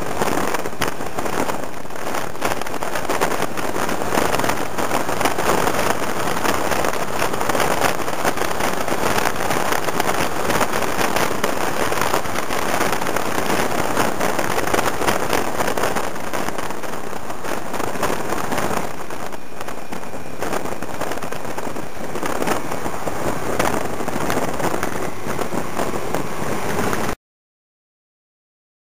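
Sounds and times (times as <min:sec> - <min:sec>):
scooter engine: 0:00.0 - 0:27.2
wind buffeting on microphone: 0:00.0 - 0:27.2
wind rushing: 0:00.0 - 0:27.2.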